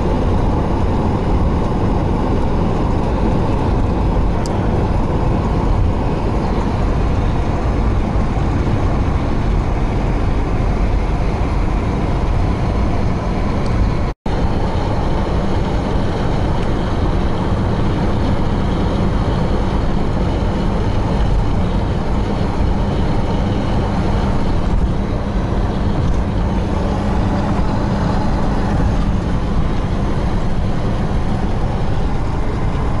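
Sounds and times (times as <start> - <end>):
car road and engine noise: 0.0 - 33.0.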